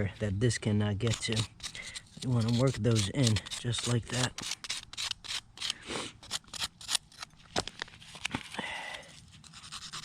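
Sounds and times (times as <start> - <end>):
hand tool scraping mortar: 0.0 - 7.3, 9.2 - 10.0.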